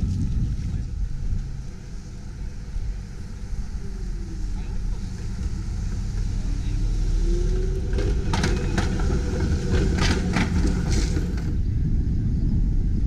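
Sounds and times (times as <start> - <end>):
streetcar wheels clacking: 0.0 - 11.7
streetcar rumble and whine: 0.0 - 13.0.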